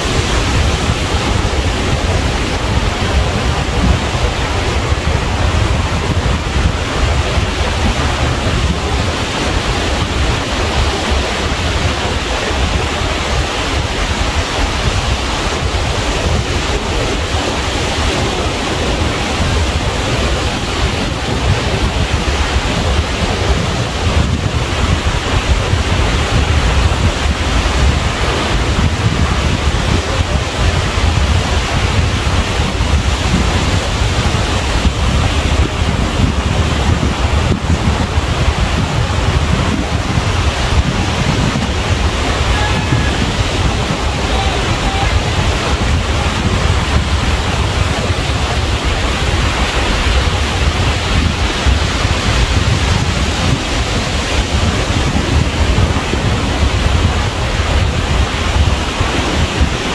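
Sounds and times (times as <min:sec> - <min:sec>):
ocean surf roaring: 0:00.0 - 0:59.9
wind buffeting microphone: 0:00.0 - 0:59.9.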